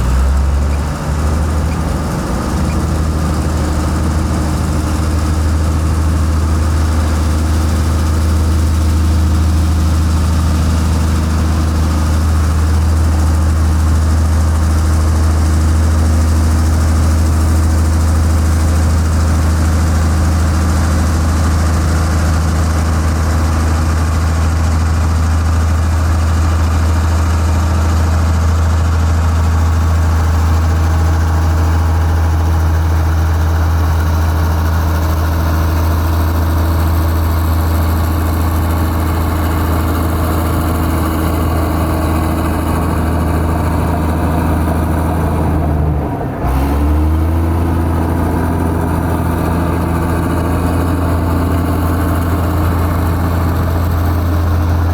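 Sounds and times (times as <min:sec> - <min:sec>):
diesel engine droning steadily: 0:00.0 - 0:54.9.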